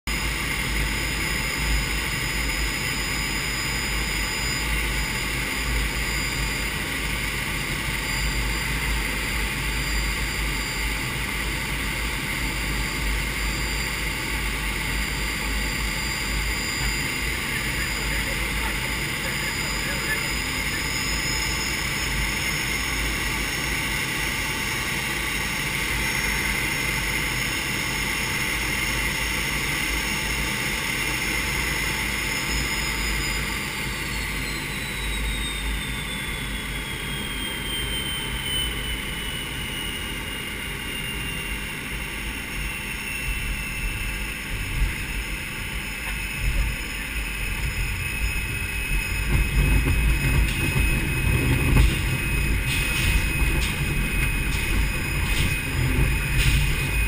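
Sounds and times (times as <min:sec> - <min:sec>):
jet engine whine: 0:00.1 - 0:57.0.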